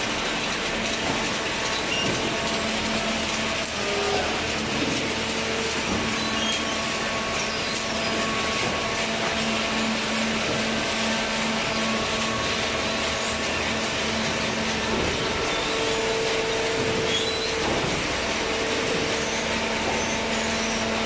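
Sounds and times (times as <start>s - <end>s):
baler machine humming: 0.0s - 21.0s.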